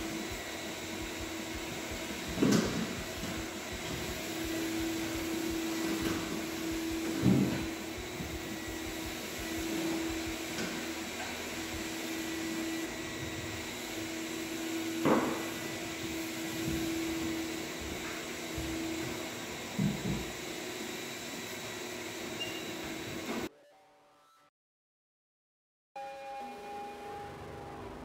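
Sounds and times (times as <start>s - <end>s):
electric motor humming: 0.0s - 23.5s.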